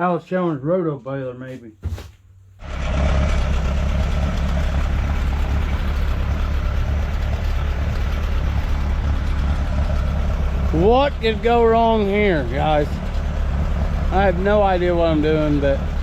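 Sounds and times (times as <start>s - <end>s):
tractor engine idling: 2.6s - 16.0s.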